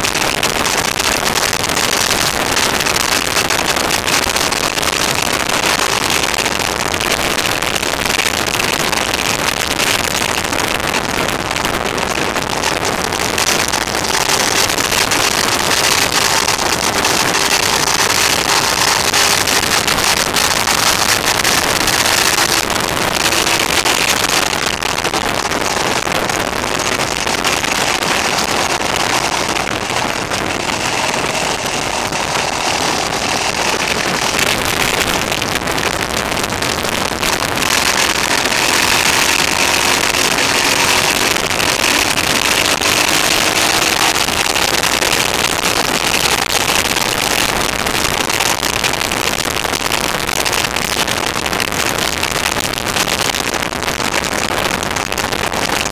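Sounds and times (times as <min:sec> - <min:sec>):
motorcycle engine cruising: 0:00.0 - 0:49.5
wind and road rush: 0:00.0 - 0:55.9.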